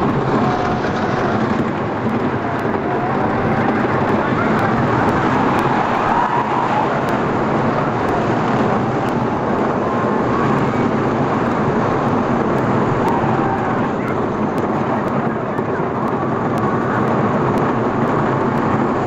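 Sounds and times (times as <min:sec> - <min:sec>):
roller coaster track rattle: 0:00.0 - 0:19.0
rushing wind on microphone: 0:00.0 - 0:19.0.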